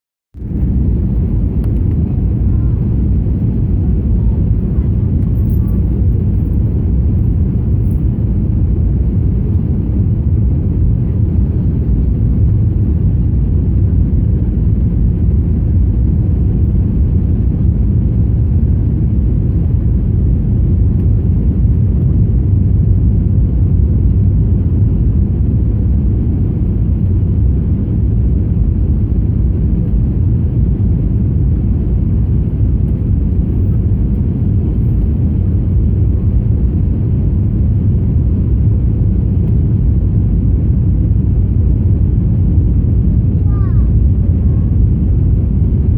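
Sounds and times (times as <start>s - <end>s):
airplane cabin engine rumble: 0.4s - 45.9s.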